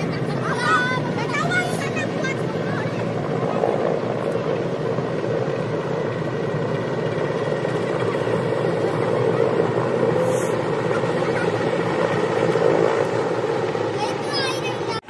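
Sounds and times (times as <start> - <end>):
helicopter rotor and engine drone: 0.0 - 15.0.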